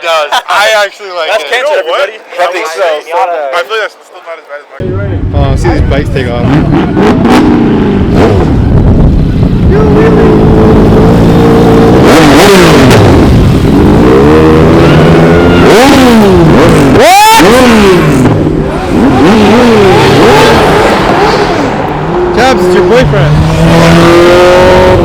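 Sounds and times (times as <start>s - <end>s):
motorcycle engines revving: 4.8s - 25.0s.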